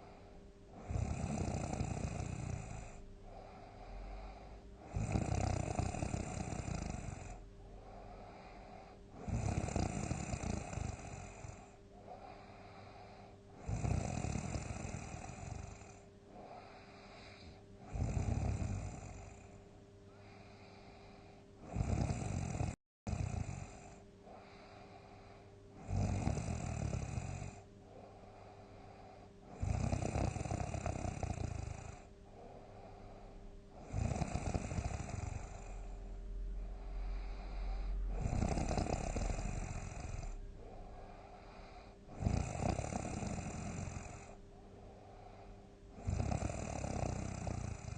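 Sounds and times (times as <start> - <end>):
person snoring heavily: 0.0 - 19.6, 20.2 - 47.9
faint steady hum: 0.0 - 47.9.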